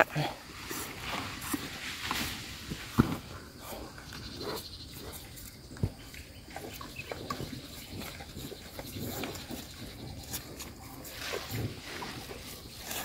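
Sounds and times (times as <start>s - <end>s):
cattle feeding clicks and rustles: 0.4s - 13.0s.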